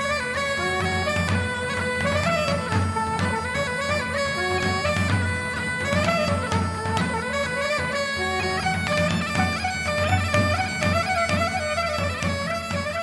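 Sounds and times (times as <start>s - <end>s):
instrumental folk music: 0.0s - 13.0s.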